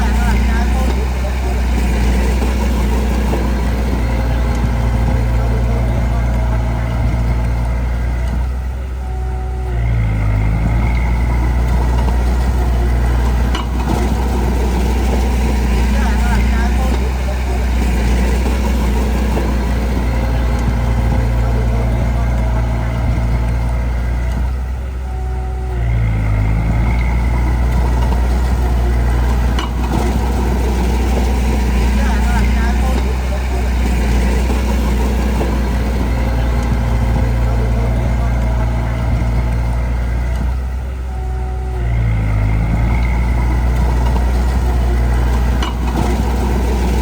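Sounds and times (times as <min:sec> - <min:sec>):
diesel machinery engine running: 0:00.0 - 0:47.0.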